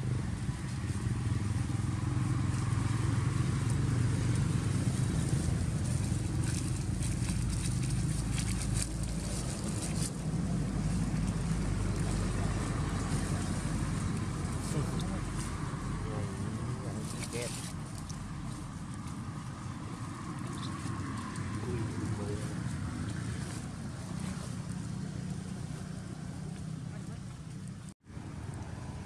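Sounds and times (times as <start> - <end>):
dry leaves crackling: 0.0 - 28.3
low motor rumble: 0.0 - 29.0.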